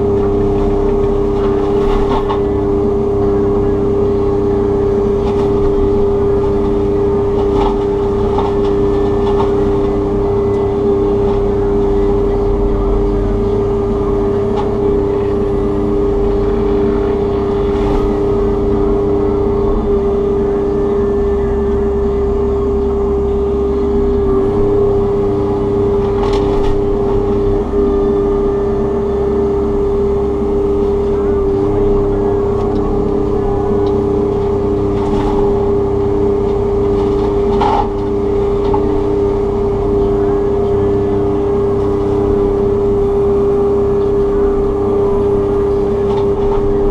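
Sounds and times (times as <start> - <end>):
excavator mulching head hum: 0.0 - 46.9
low rumble: 0.0 - 46.9.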